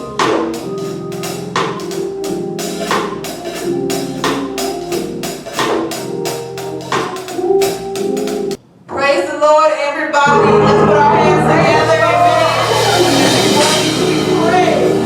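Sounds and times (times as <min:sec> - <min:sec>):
sharp percussion beat: 0:00.0 - 0:08.6, 0:11.4 - 0:15.0
sustained instrumental chords: 0:00.0 - 0:08.9, 0:10.2 - 0:15.0.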